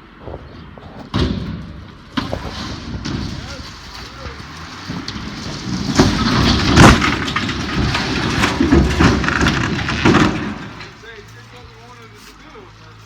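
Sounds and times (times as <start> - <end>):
crumpling metal: 0.6 - 12.6.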